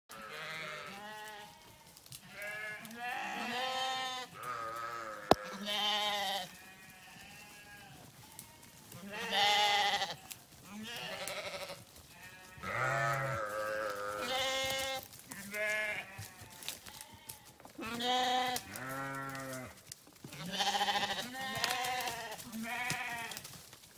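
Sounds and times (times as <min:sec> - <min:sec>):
sheep bleating: 0:00.1 - 0:23.4.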